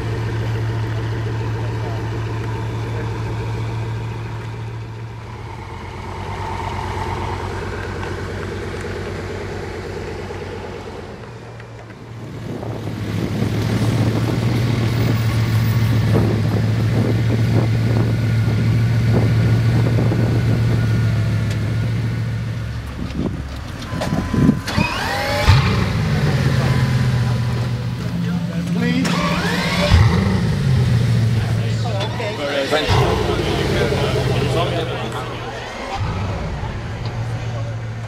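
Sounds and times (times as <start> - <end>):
car engine idling: 0.0 - 38.0
louder rougher engine idling: 0.0 - 38.0.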